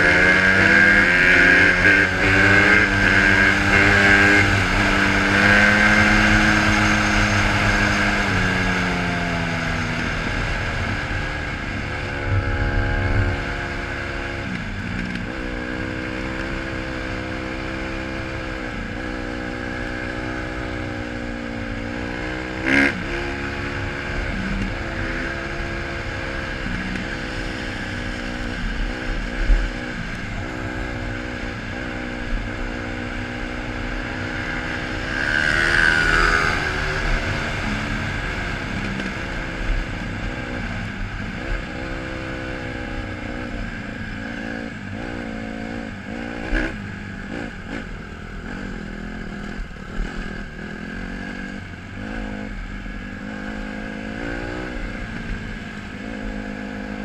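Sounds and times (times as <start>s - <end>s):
dirt bike engine revving: 0.0s - 57.0s
low wind rumble: 0.0s - 57.0s.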